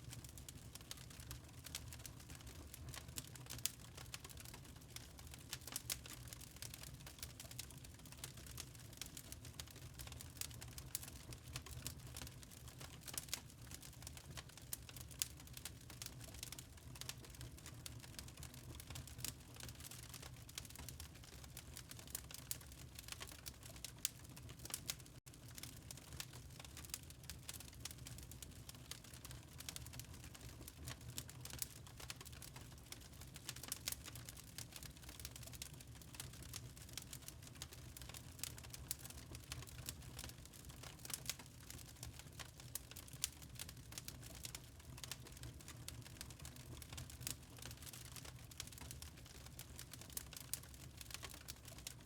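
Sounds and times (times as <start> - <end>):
low rumble of flame: 0.0 - 52.0
wood fire crackling: 0.0 - 52.0.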